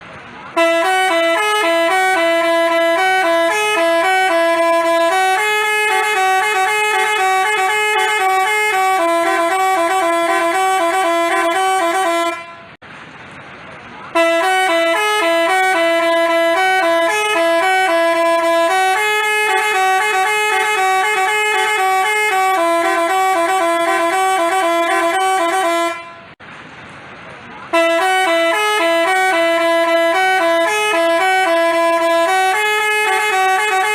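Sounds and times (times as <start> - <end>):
bus horn playing melody: 0.5 - 12.8, 14.1 - 26.4, 27.7 - 33.9.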